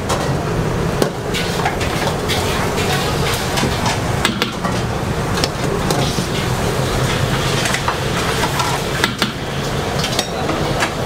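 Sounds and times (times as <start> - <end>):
low kitchen rumble: 0.0 - 11.0.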